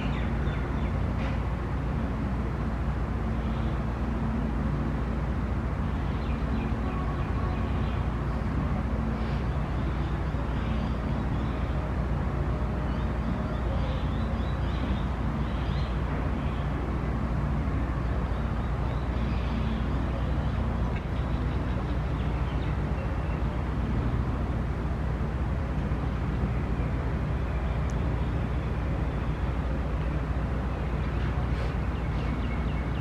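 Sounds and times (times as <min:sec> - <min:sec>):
low mechanical drone: 0:00.0 - 0:33.0.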